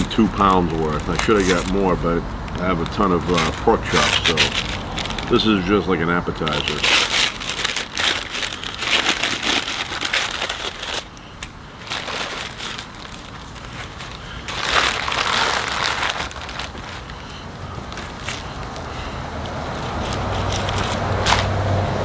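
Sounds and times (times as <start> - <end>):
paper wrapping crinkling: 0.0 - 21.5.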